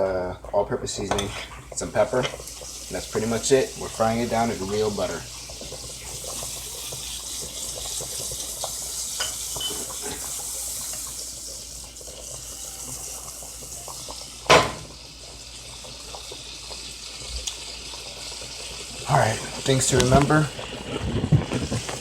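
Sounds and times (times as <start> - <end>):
steak sizzling in a pan: 0.9 - 22.0.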